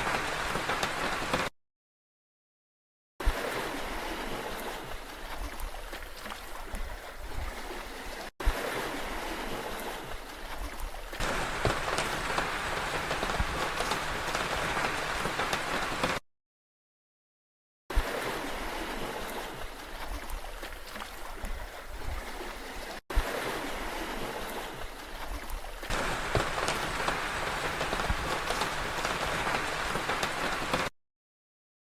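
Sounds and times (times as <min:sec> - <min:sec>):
rushing water: 0:00.0 - 0:01.5, 0:03.2 - 0:16.2, 0:17.9 - 0:30.9.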